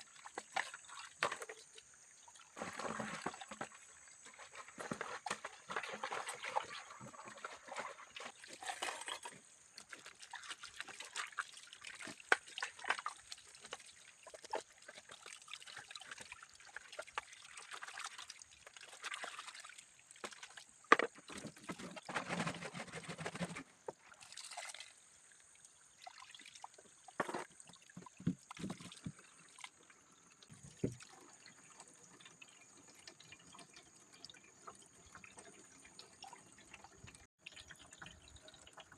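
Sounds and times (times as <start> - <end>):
water splashing and trickling: 0.0 - 38.9.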